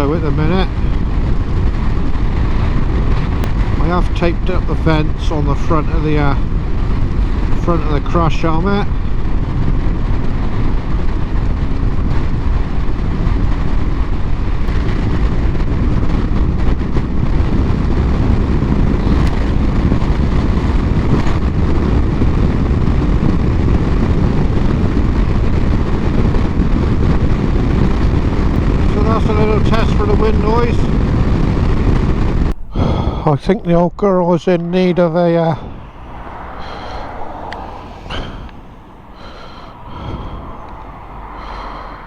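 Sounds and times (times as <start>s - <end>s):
motorcycle running: 0.0s - 33.6s, 34.4s - 42.0s
road noise: 0.0s - 42.0s
wind rushing over microphone: 0.0s - 42.0s.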